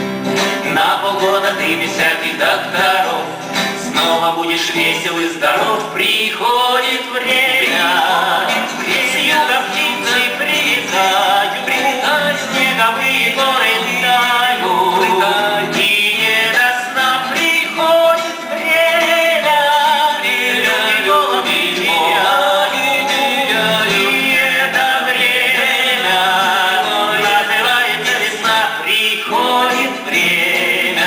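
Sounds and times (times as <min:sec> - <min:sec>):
voices singing with music: 0:00.0 - 0:31.0.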